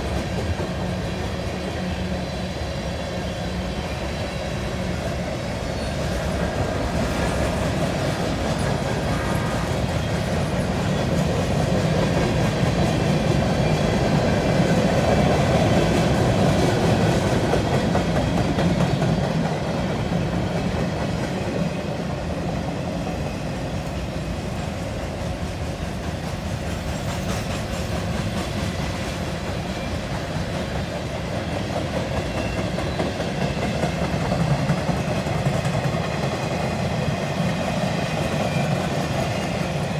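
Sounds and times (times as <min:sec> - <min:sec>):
clickety-clack over rail joints: 0:00.0 - 0:39.9
train wheels rumbling on rail: 0:00.0 - 0:39.9.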